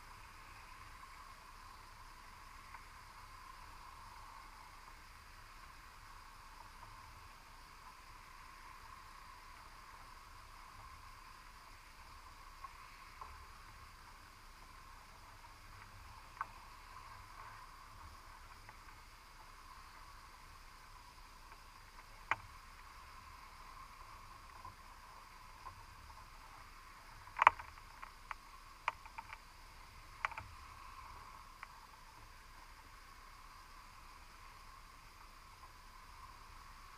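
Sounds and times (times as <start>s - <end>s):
faint underwater hiss: 0.0s - 36.9s.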